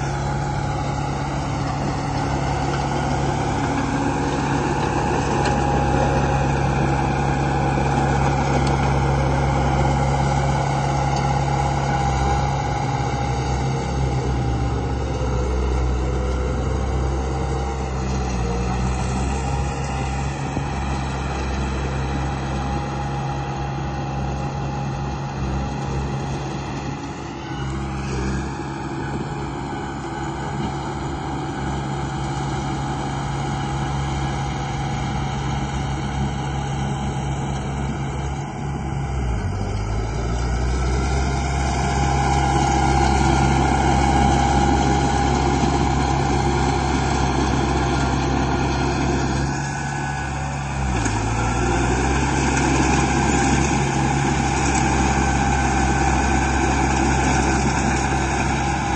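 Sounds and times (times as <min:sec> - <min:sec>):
construction machine engine drone: 0:00.0 - 0:58.9.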